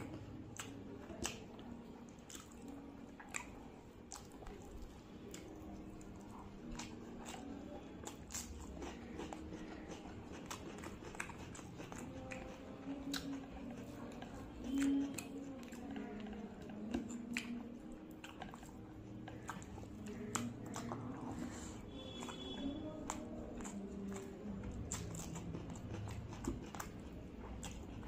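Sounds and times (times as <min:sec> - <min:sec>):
wet chewing and lip smacks: 0:00.0 - 0:28.0.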